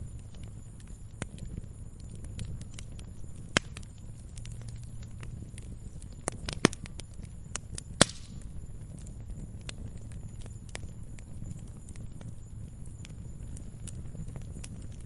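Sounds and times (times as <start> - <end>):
loud sharp fire pops: 0.0 - 15.0
wood fire crackling: 0.0 - 15.0.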